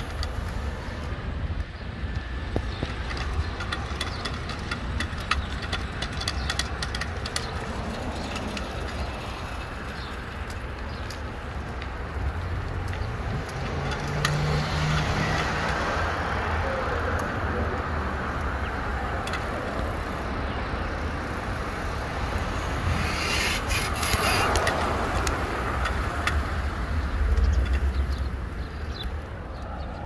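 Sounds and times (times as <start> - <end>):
bicycle clicks and rattles: 0.0 - 30.0
wind and road noise: 0.0 - 30.0.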